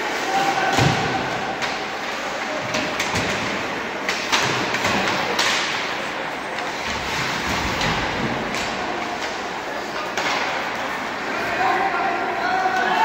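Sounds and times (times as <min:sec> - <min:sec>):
sticks and puck clacking on boards: 0:00.0 - 0:13.0.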